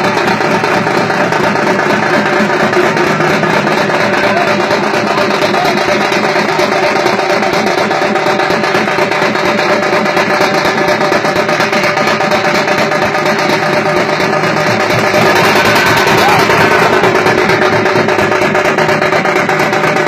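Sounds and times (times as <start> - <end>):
group beating frame drums: 0.0 - 20.0.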